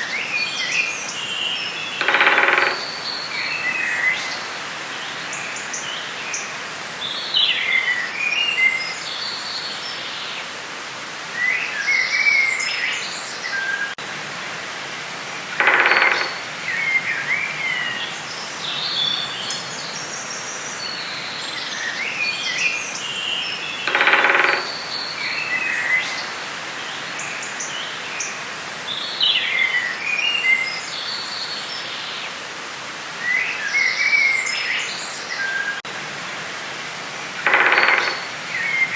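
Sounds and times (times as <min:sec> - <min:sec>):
steady background hiss: 0:00.0 - 0:38.9.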